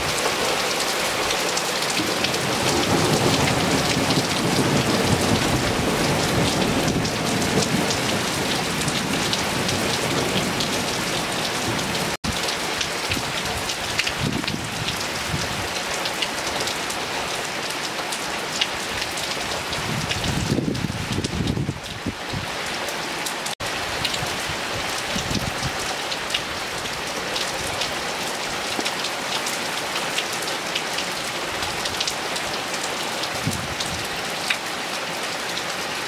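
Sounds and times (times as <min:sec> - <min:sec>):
hard rain on wet paving: 0:00.0 - 0:36.0.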